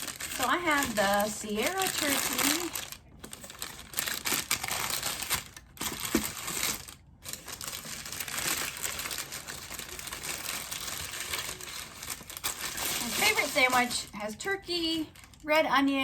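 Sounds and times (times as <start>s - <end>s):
paper wrapping crinkling: 0.0s - 15.5s.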